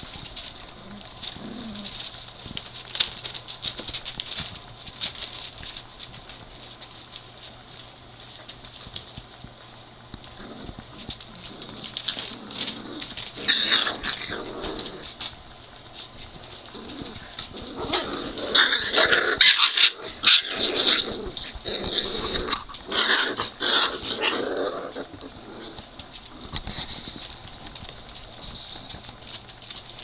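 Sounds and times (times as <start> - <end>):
puppies making play noises: 0.0 - 30.0.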